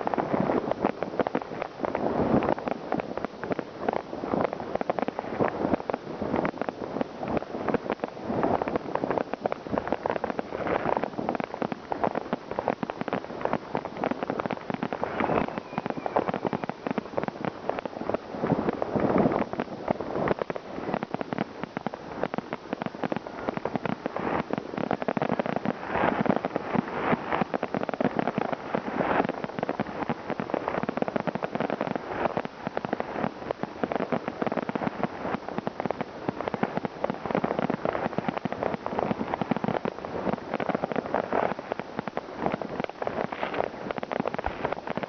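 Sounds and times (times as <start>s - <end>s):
firecrackers and fireworks crackling: 0.0s - 45.0s.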